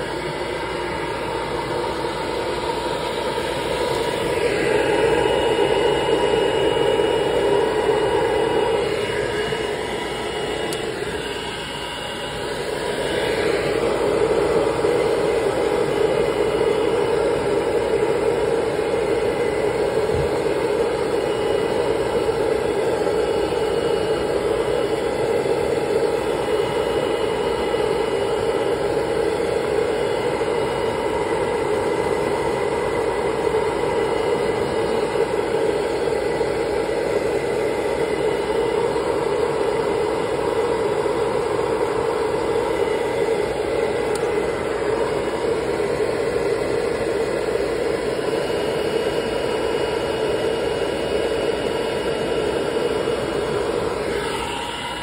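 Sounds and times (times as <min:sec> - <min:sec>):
grooming dryer blowing air: 0:00.0 - 0:55.0.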